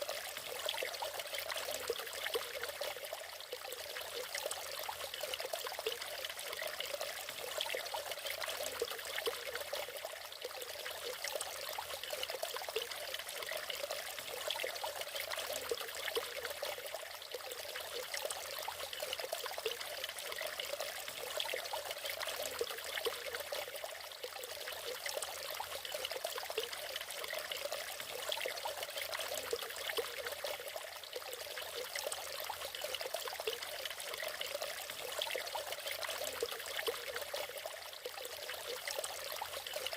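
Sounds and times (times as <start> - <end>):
waterfall splashing and trickling: 0.0 - 39.9.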